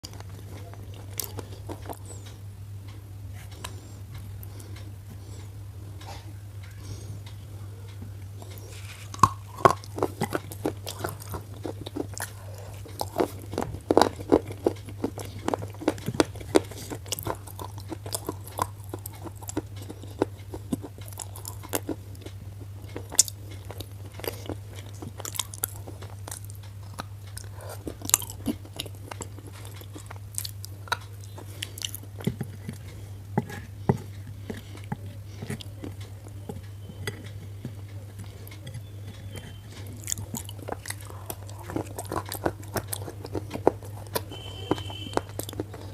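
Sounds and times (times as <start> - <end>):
pencil being chewed crunching: 0.0 - 2.4, 3.3 - 6.2, 8.3 - 45.9
steady low hum: 0.0 - 45.9.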